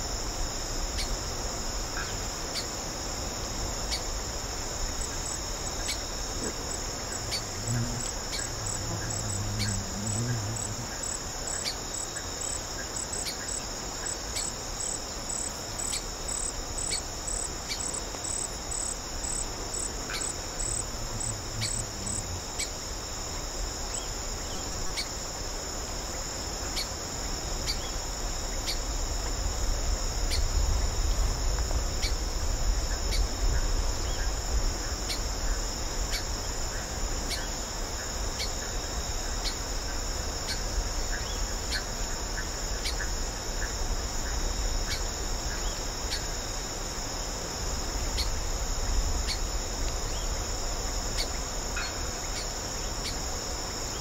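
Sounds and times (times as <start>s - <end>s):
insect chorus trilling: 0.0s - 54.0s.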